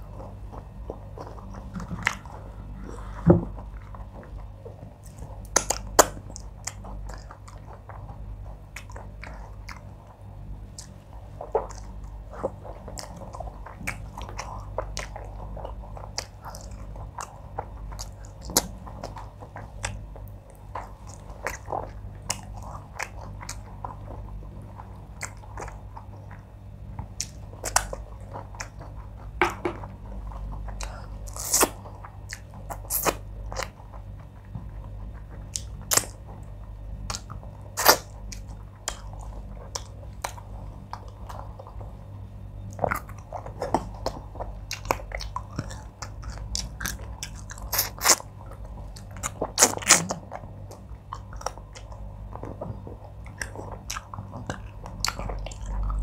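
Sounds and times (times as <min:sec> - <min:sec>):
person chewing and swallowing: 0:00.0 - 0:56.0.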